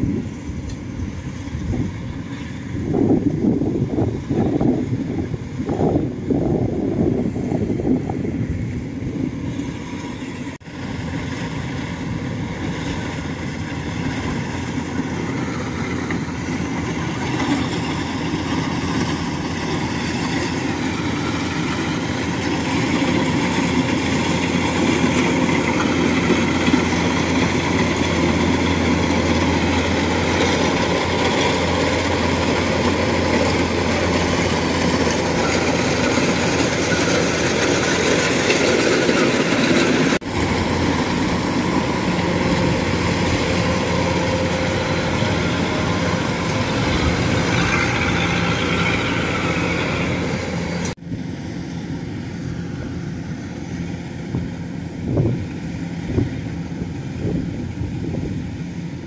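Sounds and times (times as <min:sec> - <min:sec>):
heavy vehicle engine running: 0:00.0 - 0:59.0.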